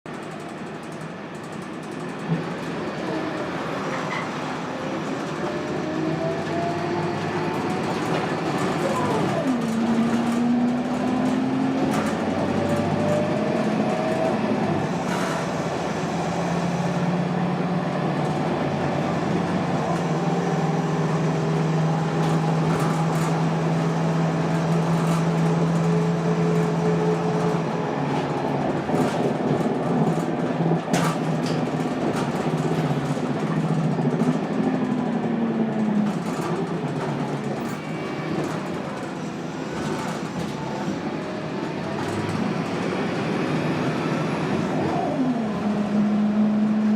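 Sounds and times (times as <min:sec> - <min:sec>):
bus diesel engine: 0:00.1 - 0:46.9.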